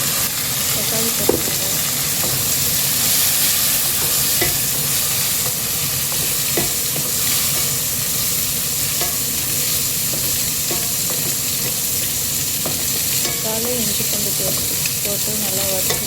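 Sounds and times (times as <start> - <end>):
onions sizzling in a pan: 0.0 - 16.0
spatula tapping: 2.2 - 16.0.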